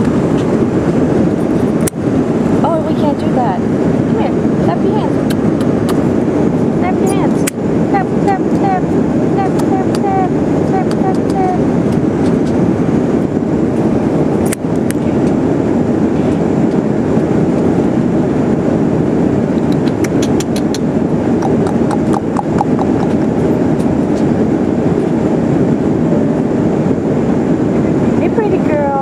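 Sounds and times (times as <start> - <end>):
airliner cabin noise: 0.0 - 29.0.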